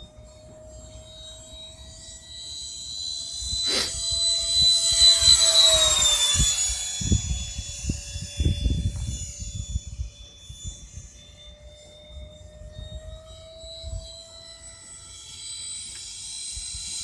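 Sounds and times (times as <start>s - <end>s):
model jet fans whining: 0.0s - 17.0s.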